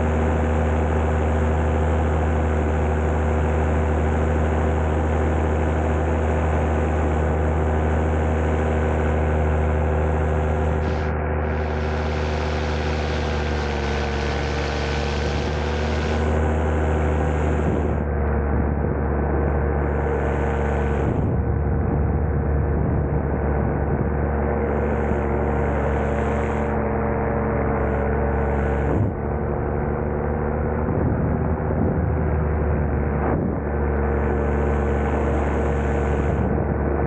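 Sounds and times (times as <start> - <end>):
ultralight aircraft engine and propeller: 0.0 - 37.0.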